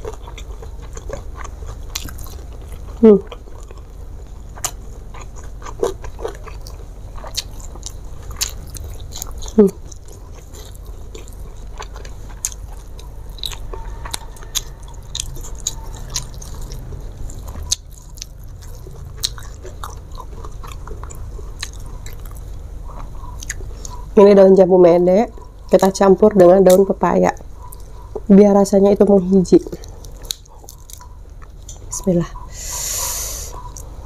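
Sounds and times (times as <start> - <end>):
person chewing food: 0.0 - 24.2, 27.4 - 28.3, 29.6 - 34.0.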